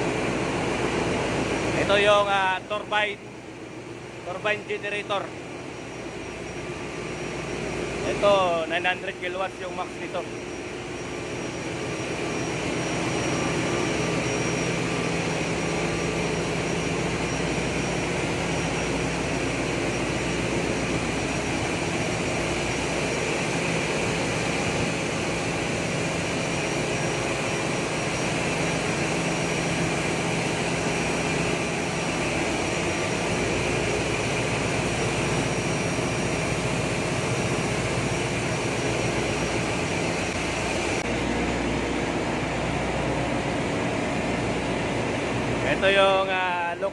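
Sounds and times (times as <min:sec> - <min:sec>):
engine room machinery roar: 0:00.0 - 0:46.9.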